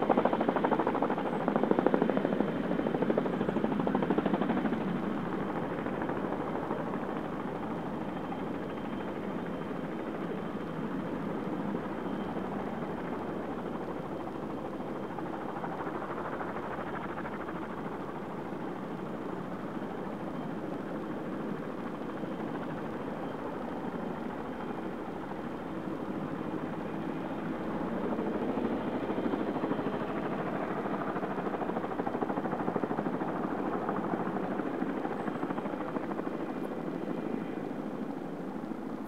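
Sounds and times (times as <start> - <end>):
helicopter rotors beating: 0.0 - 39.0.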